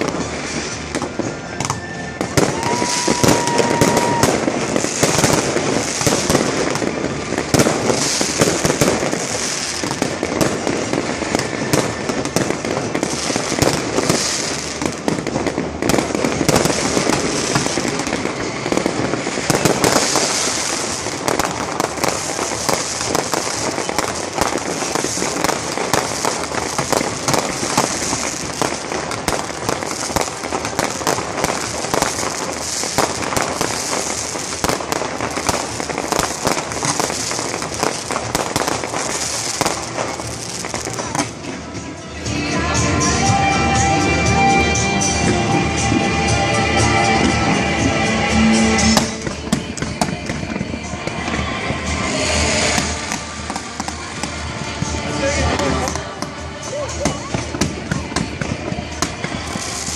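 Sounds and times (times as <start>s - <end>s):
fireworks crackling and banging: 0.0s - 59.9s
high crackling firework effects: 0.0s - 59.9s.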